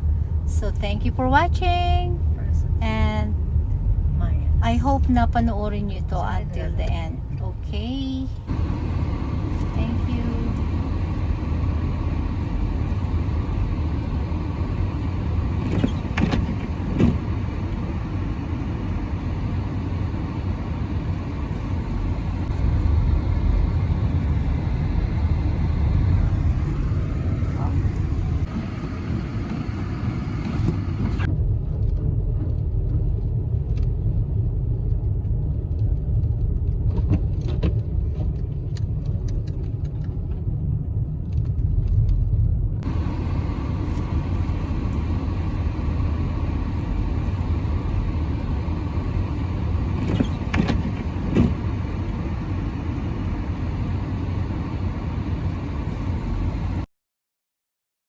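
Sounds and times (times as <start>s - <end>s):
car engine and tyre noise: 0.0s - 56.9s.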